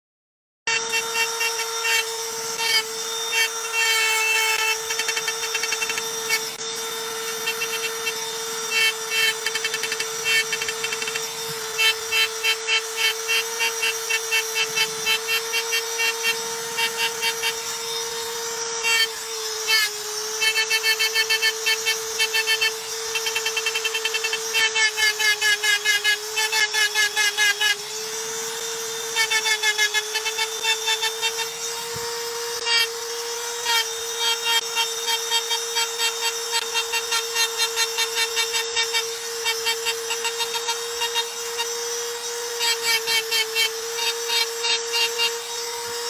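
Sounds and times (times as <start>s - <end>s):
rotary engraving tool whining: 0.7s - 46.0s.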